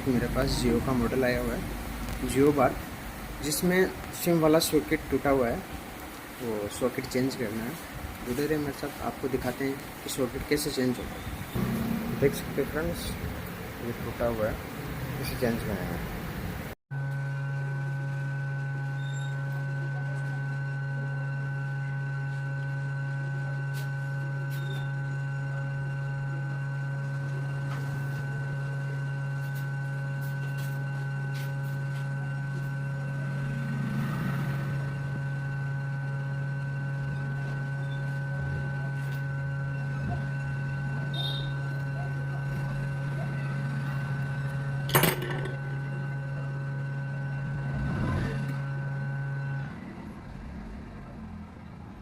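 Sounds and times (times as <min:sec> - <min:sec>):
electrical hum: 0:00.0 - 0:52.0.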